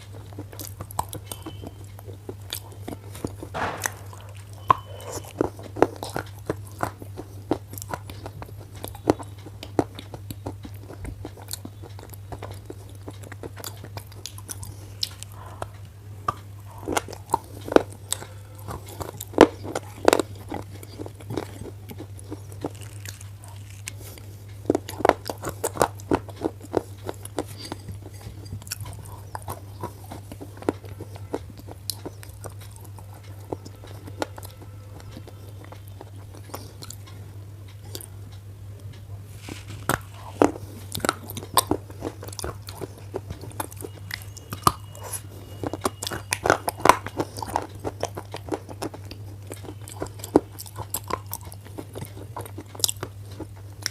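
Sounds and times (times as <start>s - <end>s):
pencil being chewed with crunching: 0.0s - 53.9s
steady low hum: 0.0s - 53.9s.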